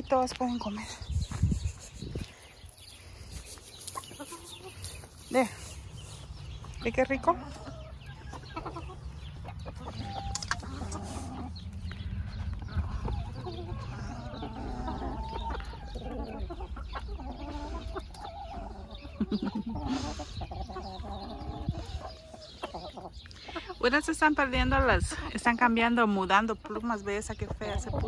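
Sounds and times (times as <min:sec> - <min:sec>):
beaks pecking grain on concrete: 0:00.1 - 0:28.0
hens clucking: 0:00.1 - 0:28.0.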